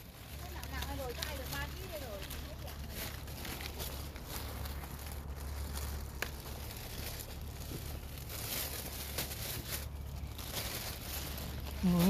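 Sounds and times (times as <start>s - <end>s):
leaves and twigs rustling: 0.0s - 12.0s
low rumble: 0.0s - 12.0s.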